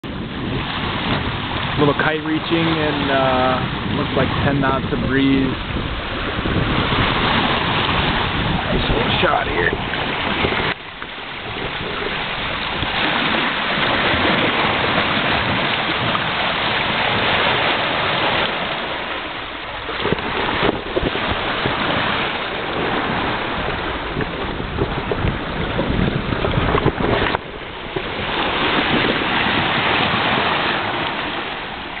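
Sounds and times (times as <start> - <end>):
bow wave rushing and splashing: 0.0 - 32.0
wind buffeting microphone: 0.0 - 32.0.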